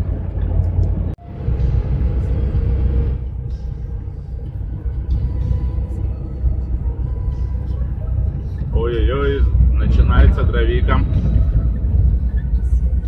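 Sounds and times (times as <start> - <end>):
van engine and tyres rumbling: 0.0 - 13.0.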